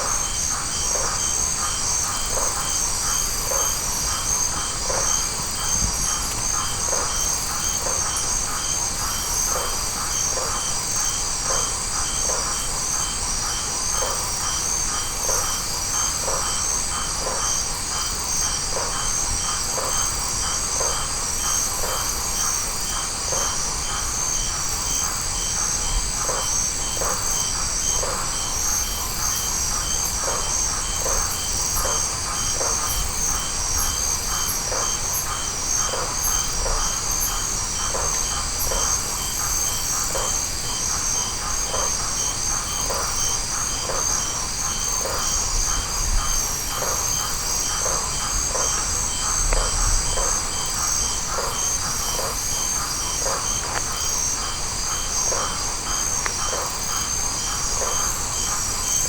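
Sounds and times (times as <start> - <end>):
crickets and insects trilling: 0.0 - 59.0.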